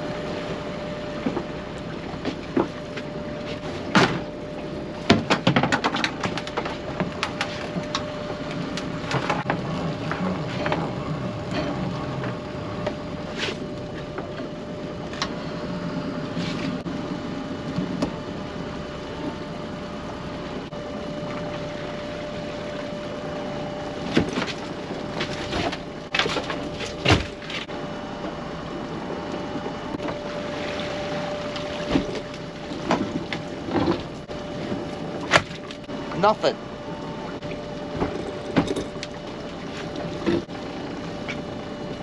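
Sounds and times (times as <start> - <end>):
pot hauler motor whine: 0.0 - 42.0.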